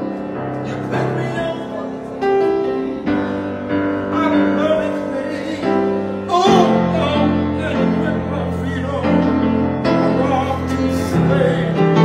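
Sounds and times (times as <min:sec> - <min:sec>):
piano chords: 0:00.0 - 0:12.0
man singing: 0:00.5 - 0:02.2, 0:02.9 - 0:12.0.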